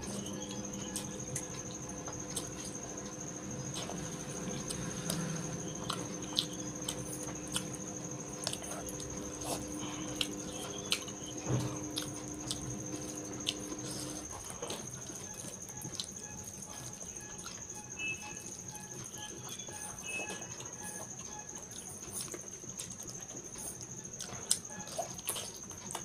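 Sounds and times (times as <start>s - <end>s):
chewing with mouth clicks: 0.0s - 26.0s.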